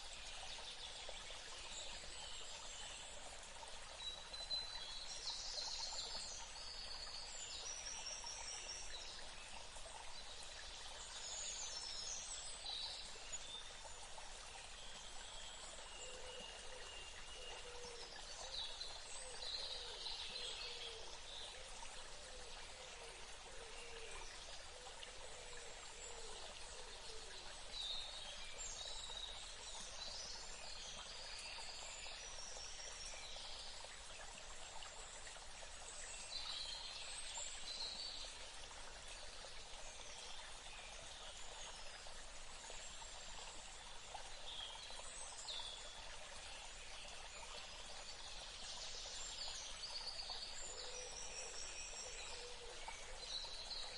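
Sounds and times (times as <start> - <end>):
running water: 0.0 - 53.9.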